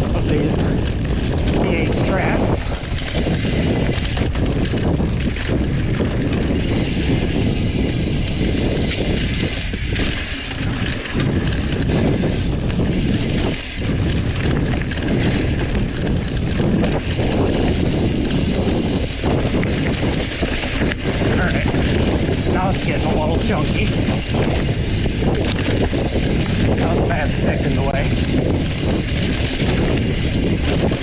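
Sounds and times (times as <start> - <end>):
bike tyres rolling on dirt: 0.0 - 31.0
mechanical rattling: 0.0 - 31.0
wind buffeting microphone: 0.0 - 31.0.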